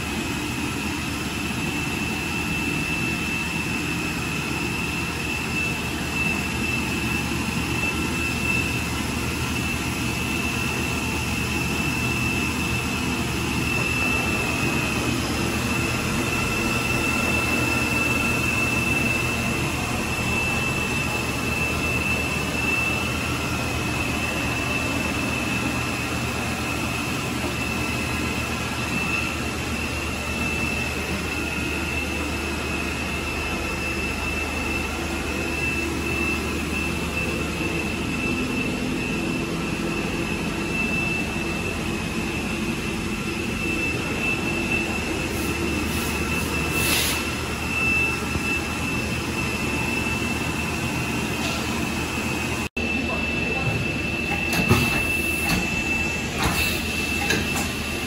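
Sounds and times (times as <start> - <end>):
machine high whine: 0.0 - 58.0.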